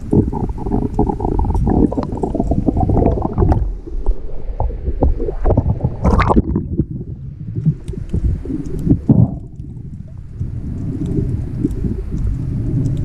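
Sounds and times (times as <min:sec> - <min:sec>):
underwater water rumble: 0:00.0 - 0:13.0.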